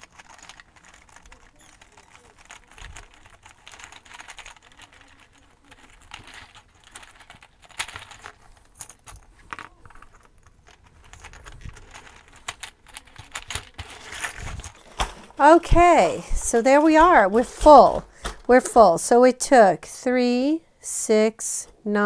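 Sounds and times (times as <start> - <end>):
plastic ornaments clicking and rattling: 0.0 - 19.1.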